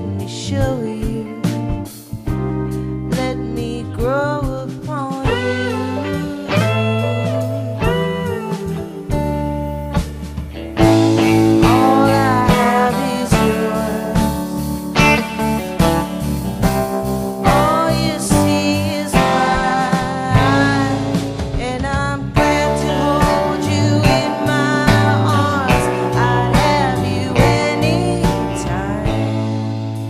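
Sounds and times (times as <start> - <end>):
bass guitar: 0.0 - 30.0
drums: 0.0 - 30.0
electric guitar melody: 0.0 - 30.0.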